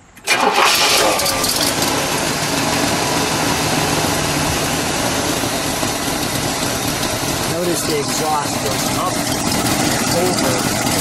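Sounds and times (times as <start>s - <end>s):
car engine idling: 0.3s - 11.0s.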